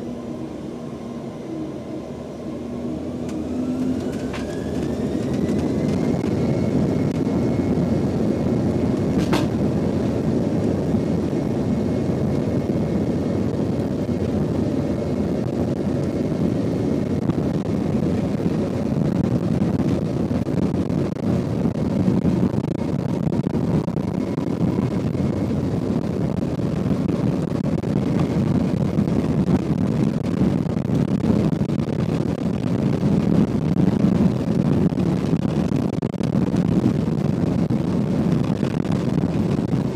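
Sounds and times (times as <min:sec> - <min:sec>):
jet engines rumbling with whine: 0:00.0 - 0:39.9.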